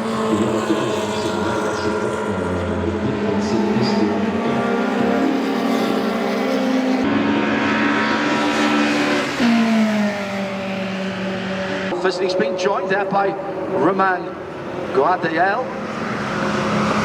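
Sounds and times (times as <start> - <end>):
passing car engine: 0.0 - 17.0
racing car engines: 0.0 - 17.0.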